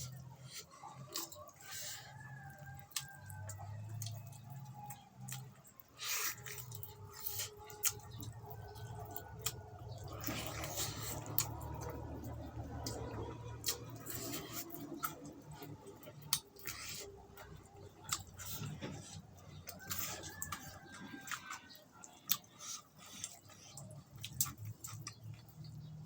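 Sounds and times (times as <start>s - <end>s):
wet chewing: 0.0s - 26.0s.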